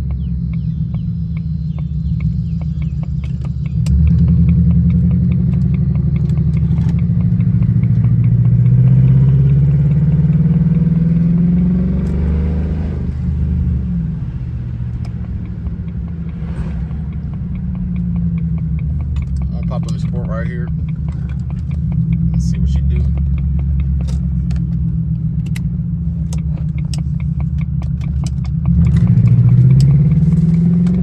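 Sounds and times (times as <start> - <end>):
light regular ticking: 0.0 - 10.0, 13.1 - 31.0
car engine accelerating: 0.0 - 31.0.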